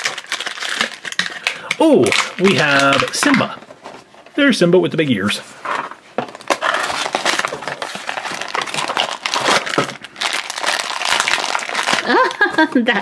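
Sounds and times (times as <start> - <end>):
plastic bag crinkling: 0.0 - 4.1, 6.2 - 12.7.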